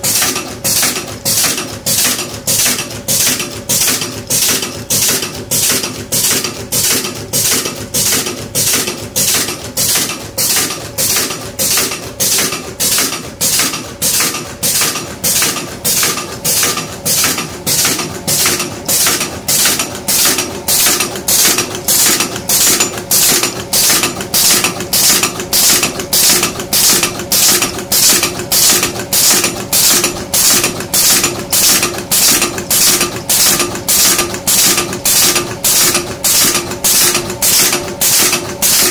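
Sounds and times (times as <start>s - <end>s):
staple-making press stroking: 0.0s - 38.9s
steady machine hum: 0.0s - 38.9s.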